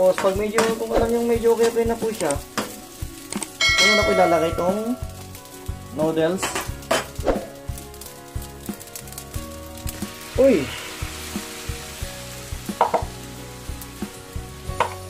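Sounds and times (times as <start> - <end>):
dry noodles crackling: 0.0 - 15.0
food sizzling in a frying pan: 0.0 - 15.0.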